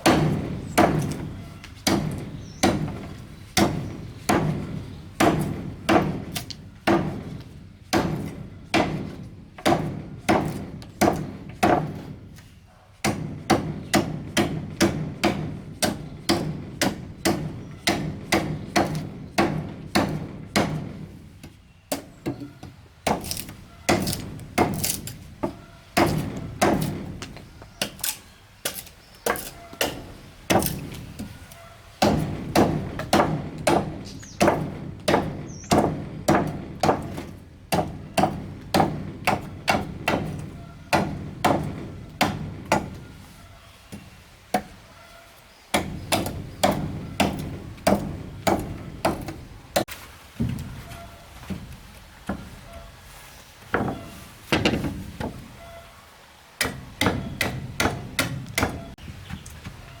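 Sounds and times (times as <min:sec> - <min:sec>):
hammer striking wood: 0:00.0 - 0:12.2, 0:13.0 - 0:21.2, 0:21.9 - 0:31.4, 0:32.0 - 0:43.1, 0:45.7 - 0:50.7, 0:56.6 - 0:59.0.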